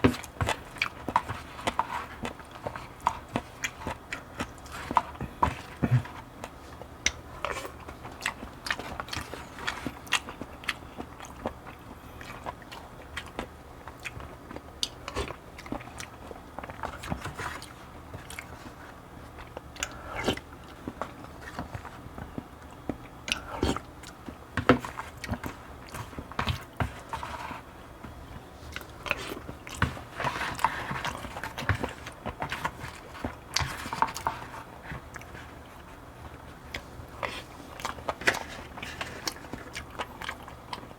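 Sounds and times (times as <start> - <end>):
close chewing with mouth clicks: 0.0 - 40.9.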